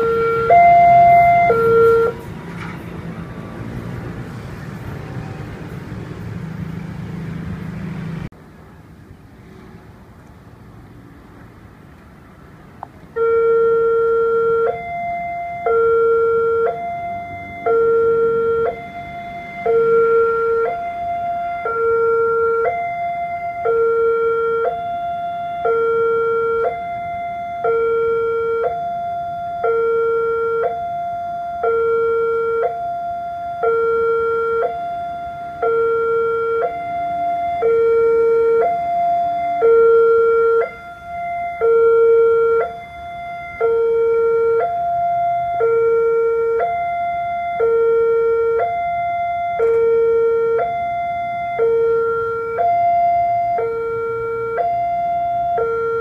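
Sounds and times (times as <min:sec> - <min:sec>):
two-tone level crossing alarm: 0:00.0 - 0:02.7, 0:13.1 - 0:56.0.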